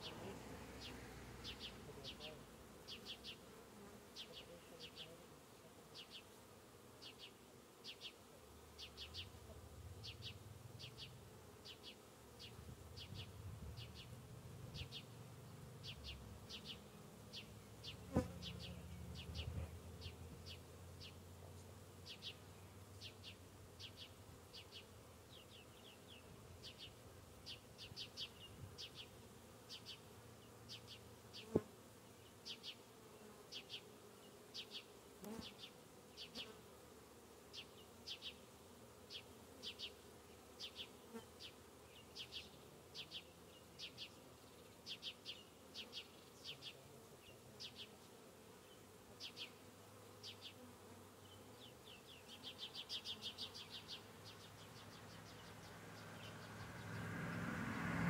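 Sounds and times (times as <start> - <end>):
honeybees buzzing: 0.0 - 57.6.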